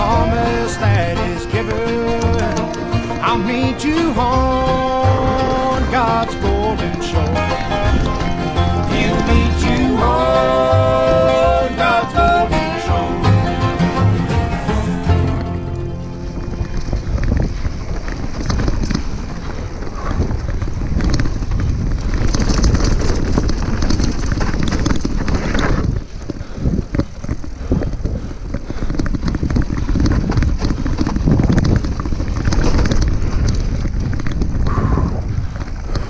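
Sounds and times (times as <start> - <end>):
bike rattling over bumps: 0.0 - 36.0
wind buffeting microphone: 0.0 - 36.0.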